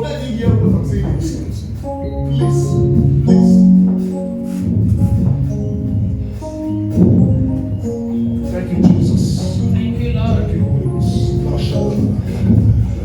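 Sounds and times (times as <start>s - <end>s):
church worship music: 0.0s - 13.0s.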